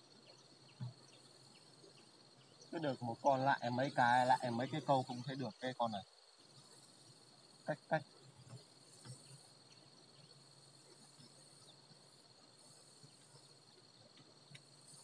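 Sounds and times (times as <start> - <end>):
high-pitched insect trilling: 0.0 - 15.0.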